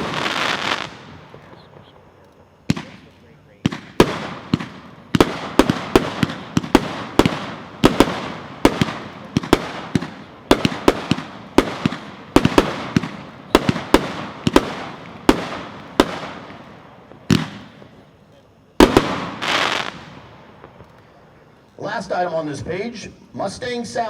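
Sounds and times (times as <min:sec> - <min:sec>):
fireworks booming: 0:00.0 - 0:21.2.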